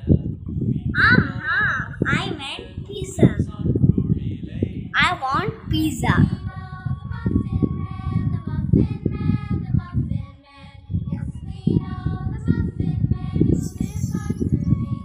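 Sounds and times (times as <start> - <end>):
child singing: 1.0 - 3.5, 5.0 - 15.0.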